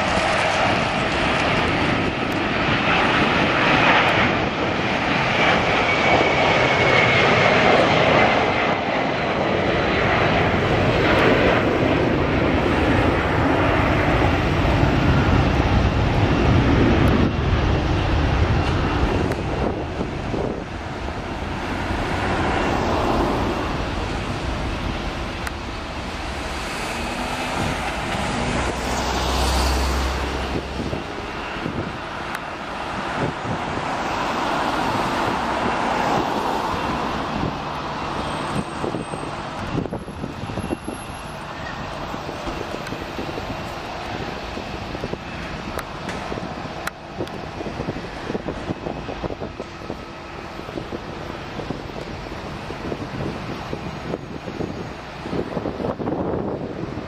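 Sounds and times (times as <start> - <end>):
falling engine whine: 0.0 - 57.0
jet engines roaring: 0.0 - 57.0.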